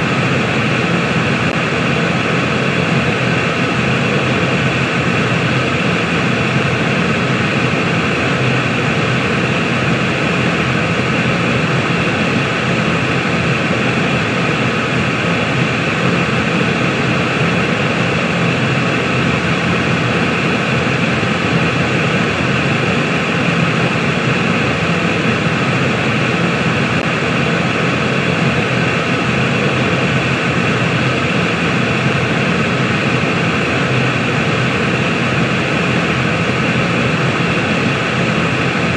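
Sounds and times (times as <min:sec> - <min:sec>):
rushing white noise hiss: 0:00.0 - 0:38.9.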